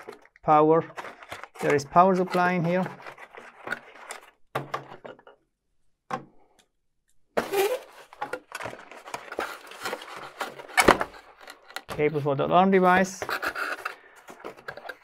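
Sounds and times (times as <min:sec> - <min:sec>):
cardboard and plastic rustling: 0:00.0 - 0:05.2, 0:07.4 - 0:15.0.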